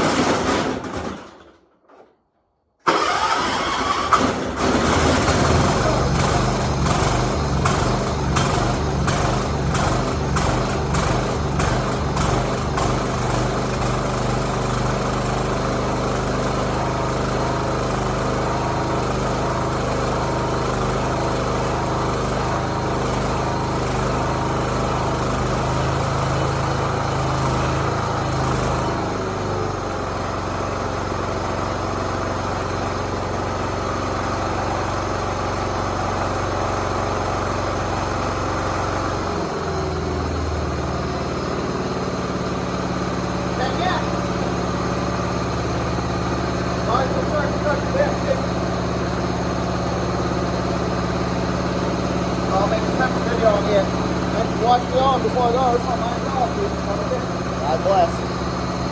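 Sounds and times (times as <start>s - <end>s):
lawnmower engine running: 2.9s - 58.9s.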